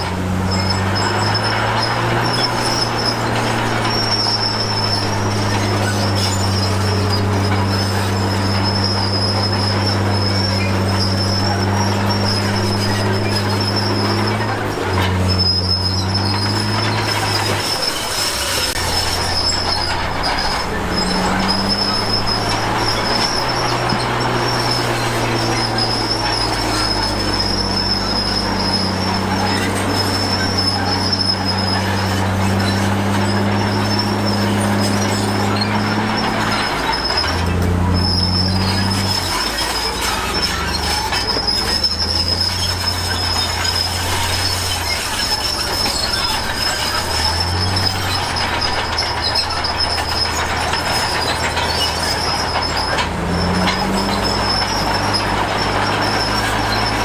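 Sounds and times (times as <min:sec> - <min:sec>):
heavy diesel machinery engine: 0:00.0 - 0:57.0
high-pitched squeal: 0:00.0 - 0:57.0.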